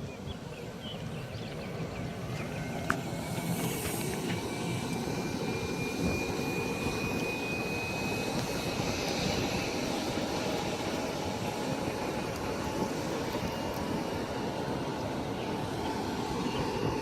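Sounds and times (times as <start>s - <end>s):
jet engines running: 0.0s - 17.0s
thin high engine whine: 0.0s - 17.0s.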